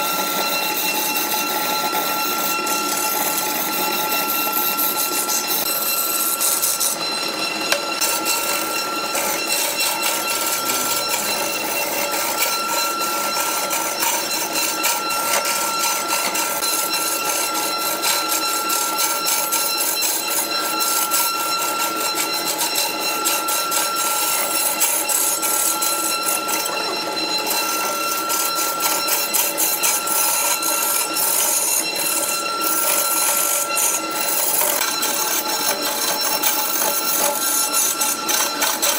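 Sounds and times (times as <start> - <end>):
wood lathe whining: 0.0 - 38.9.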